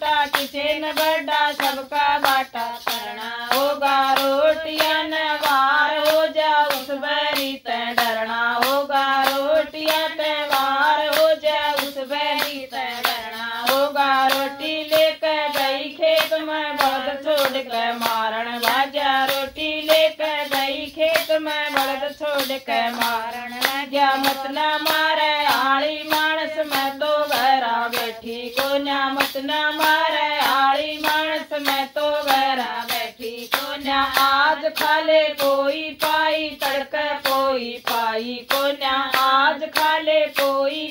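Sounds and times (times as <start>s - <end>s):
rhythmic hand clapping: 0.0s - 40.9s
woman singing folk song: 0.0s - 40.9s.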